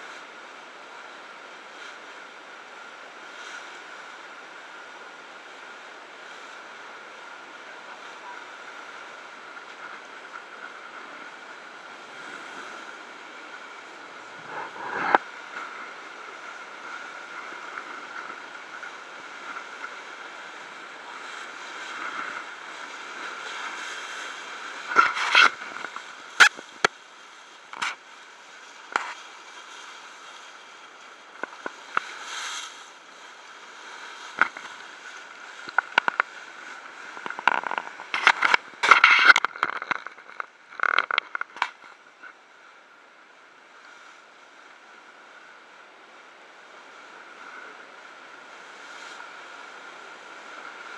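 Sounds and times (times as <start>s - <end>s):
sea water rushing past bow: 0.0s - 50.9s.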